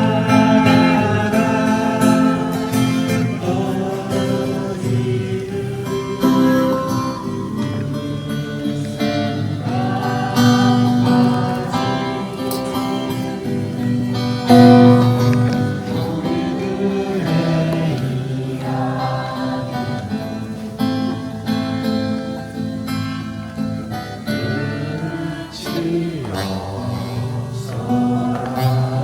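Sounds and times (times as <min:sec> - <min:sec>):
acoustic guitar strumming: 0:00.0 - 0:29.0
people singing: 0:00.0 - 0:29.0.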